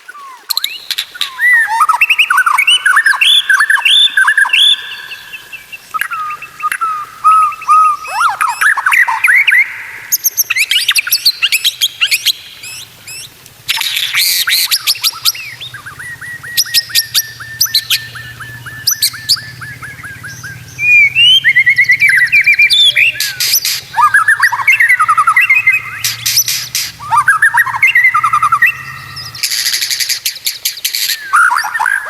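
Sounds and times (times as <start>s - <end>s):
bird whistling song: 0.0s - 32.0s.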